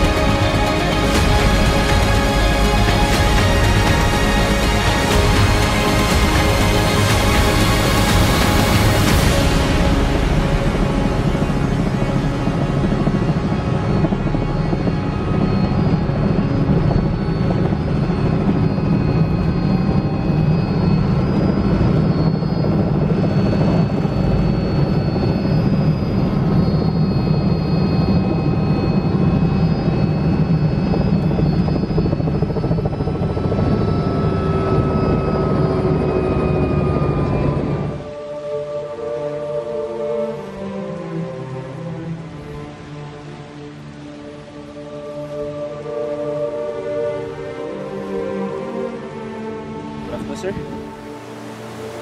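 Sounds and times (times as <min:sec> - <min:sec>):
helicopter rotor and turbine noise: 0:00.0 - 0:52.0.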